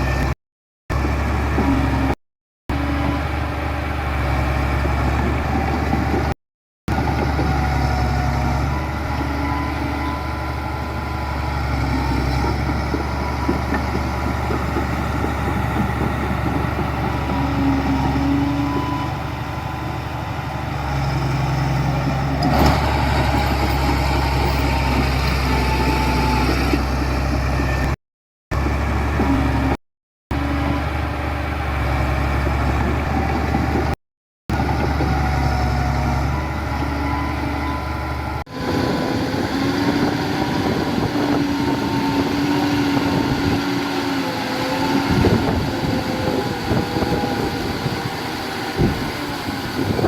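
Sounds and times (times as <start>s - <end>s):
diesel machinery engine rumble: 0.0s - 50.0s.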